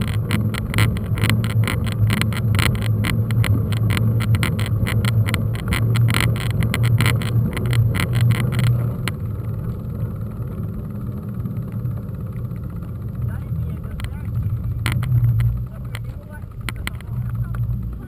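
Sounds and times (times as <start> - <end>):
bike rattling over rough ground: 0.0 - 18.0
wind and rolling rumble: 0.0 - 18.0.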